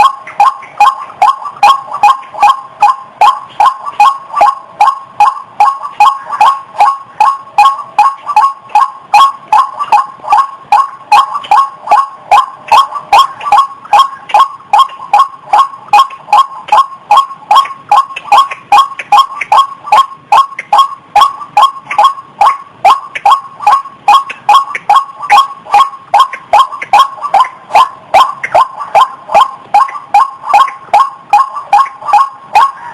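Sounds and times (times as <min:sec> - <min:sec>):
rail calling short sharp notes: 0:00.0 - 0:32.9.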